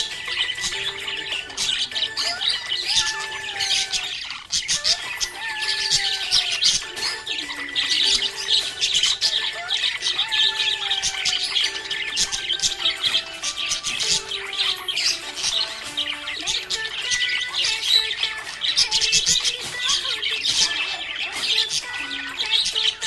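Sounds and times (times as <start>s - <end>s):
soft melody: 0.0s - 20.0s
budgerigars chattering: 0.0s - 23.0s.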